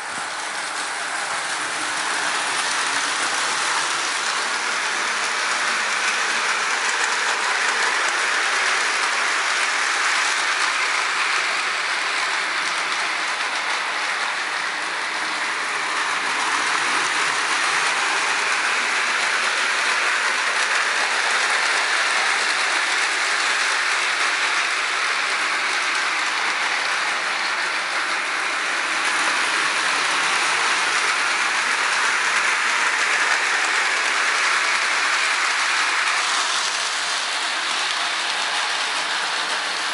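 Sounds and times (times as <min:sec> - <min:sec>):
electric toy train running: 0:00.0 - 0:39.9.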